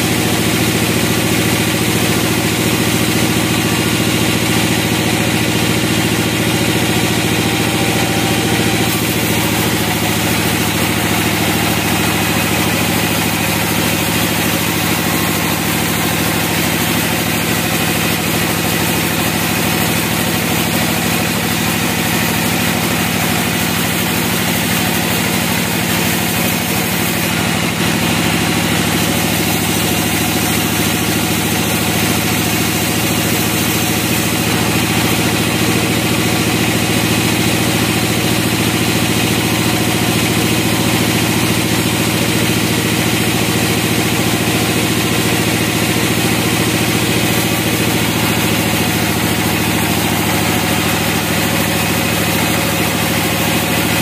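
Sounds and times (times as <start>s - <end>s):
band saw motor humming: 0.0s - 54.0s
saw blade cutting log: 0.0s - 54.0s.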